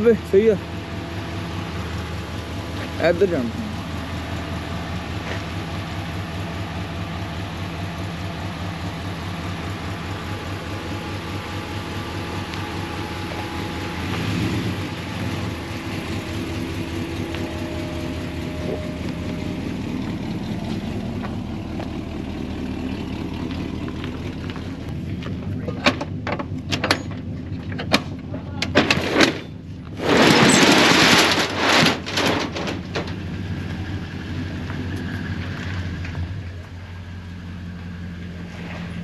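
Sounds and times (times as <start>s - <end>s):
vehicle engine running: 0.0s - 39.0s.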